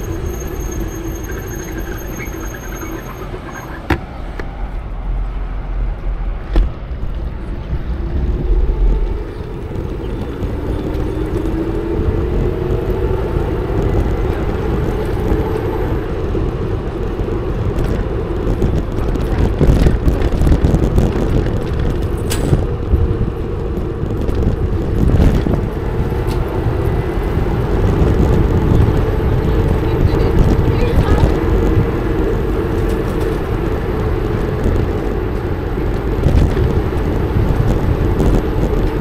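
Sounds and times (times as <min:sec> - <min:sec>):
electric hub motor whine: 0:00.0 - 0:39.0
road rumble: 0:00.0 - 0:39.0
wind noise on microphone: 0:00.0 - 0:39.0.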